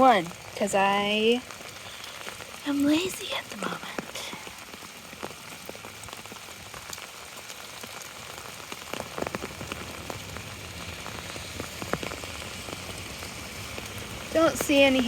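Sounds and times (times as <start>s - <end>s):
rain on an umbrella: 0.0s - 15.0s.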